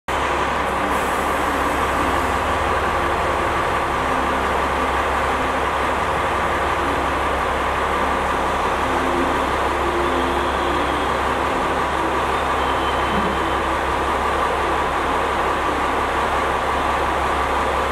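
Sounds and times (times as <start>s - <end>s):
diesel engine idling: 0.1s - 17.9s
high whine: 0.1s - 17.9s.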